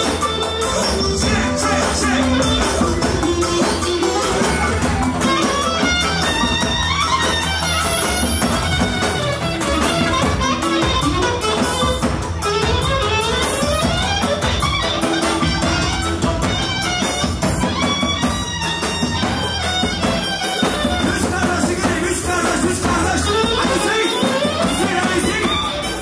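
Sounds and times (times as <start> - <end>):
live band dance music: 0.0 - 26.0
steady drum beat: 0.0 - 26.0.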